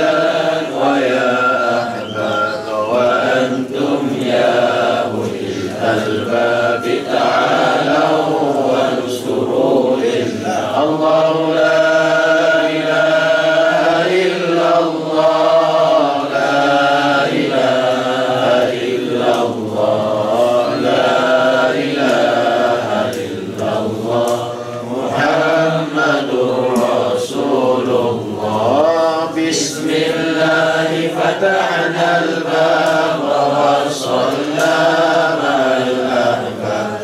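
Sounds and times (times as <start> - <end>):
voices chanting together: 0.0 - 37.0.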